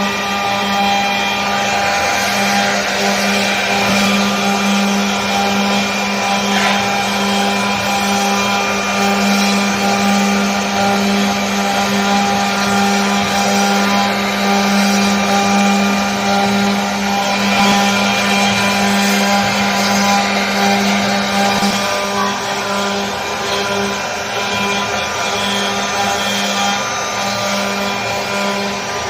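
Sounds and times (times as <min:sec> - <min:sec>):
router cutting wood: 0:00.0 - 0:29.0
router spindle whine: 0:00.0 - 0:29.0.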